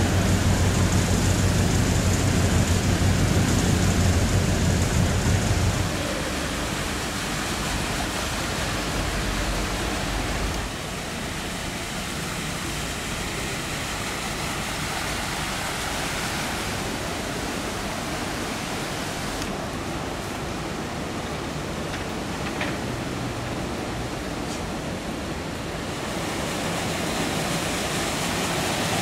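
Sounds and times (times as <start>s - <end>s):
floodwater rushing and splashing: 0.0s - 29.0s.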